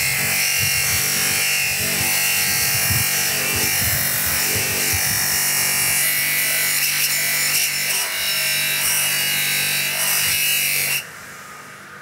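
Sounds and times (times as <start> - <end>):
bench grinder motor hum: 0.0 - 11.1.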